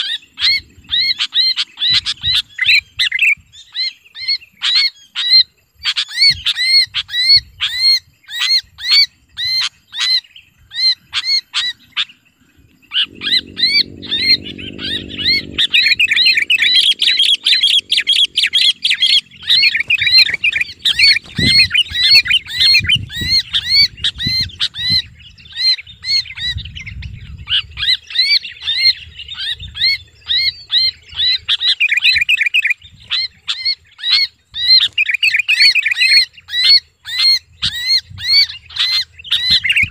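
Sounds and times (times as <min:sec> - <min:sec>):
bird distress calls: 0:00.0 - 0:39.9.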